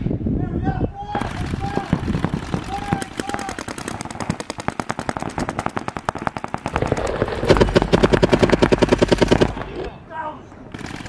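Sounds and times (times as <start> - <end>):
paintball markers rapid firing: 1.2 - 10.0, 10.6 - 11.0.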